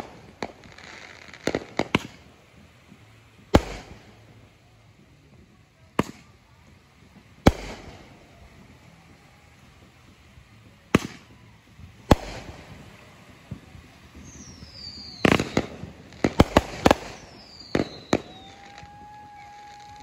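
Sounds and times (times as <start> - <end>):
fireworks bangs with echo: 0.0 - 20.0.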